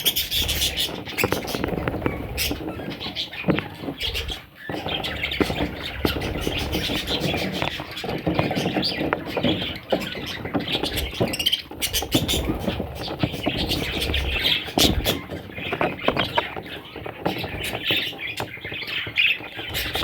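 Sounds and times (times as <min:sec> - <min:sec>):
parrots chattering and squawking: 0:00.0 - 0:20.0.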